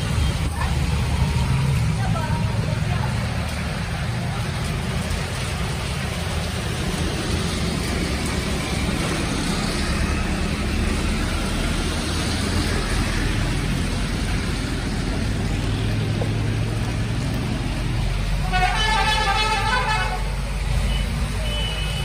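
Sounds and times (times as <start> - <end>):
heavy rain on flooded road: 0.0 - 22.0.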